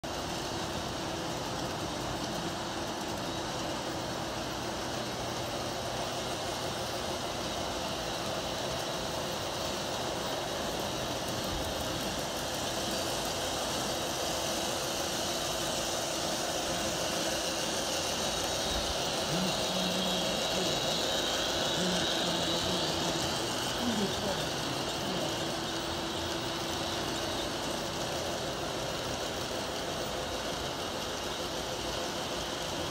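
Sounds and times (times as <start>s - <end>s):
model trains rolling: 0.0s - 32.9s.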